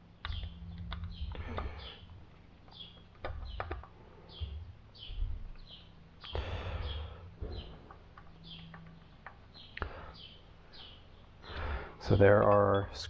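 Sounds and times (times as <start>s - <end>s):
bird chirping falling notes: 0.1s - 13.0s.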